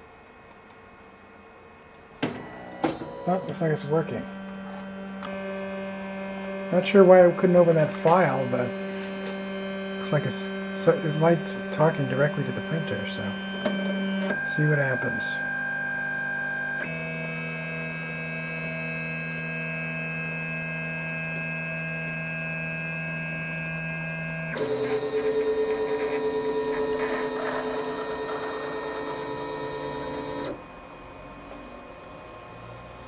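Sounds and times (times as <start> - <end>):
pulsing motor whine: 2.3 - 33.0
stepper motors whining: 2.4 - 15.1, 16.8 - 30.7.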